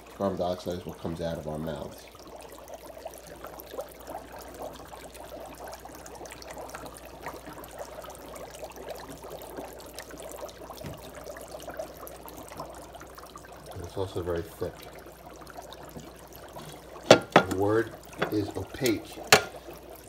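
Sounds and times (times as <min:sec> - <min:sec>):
dry ice bubbling in water: 0:00.0 - 0:20.0.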